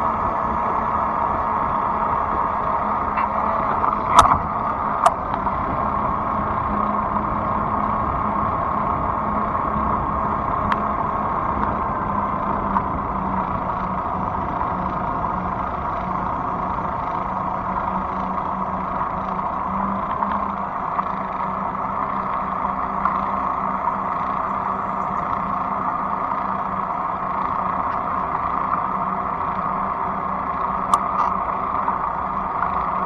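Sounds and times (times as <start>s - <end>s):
electric bike motor and tyres humming: 0.0s - 33.0s.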